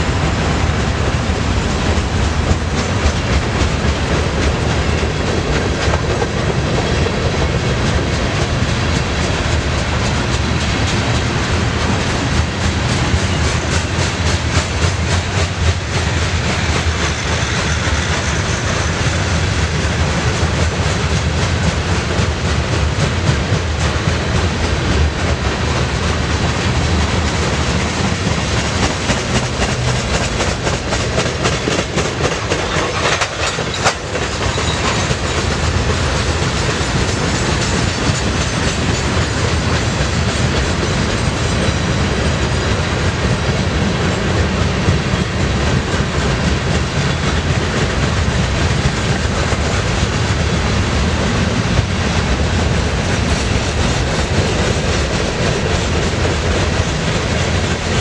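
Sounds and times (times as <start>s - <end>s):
freight train rumble: 0.0s - 58.0s
wheels clicking over rail joints: 0.0s - 58.0s.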